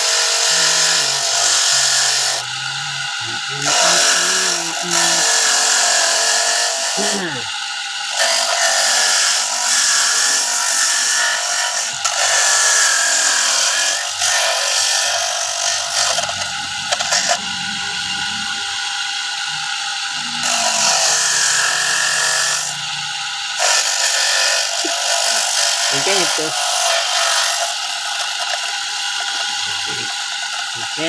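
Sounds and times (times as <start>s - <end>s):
electric coconut grater rasping: 0.0s - 31.0s.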